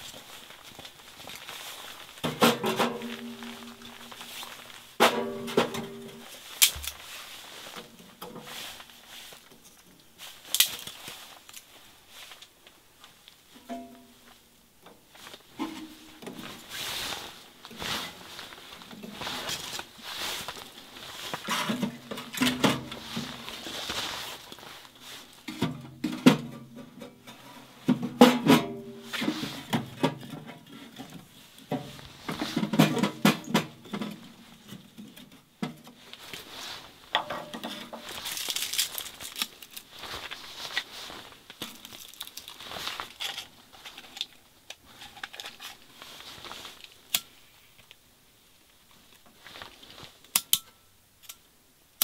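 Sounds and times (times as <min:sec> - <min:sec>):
glove and wood rustling: 0:00.0 - 0:50.4.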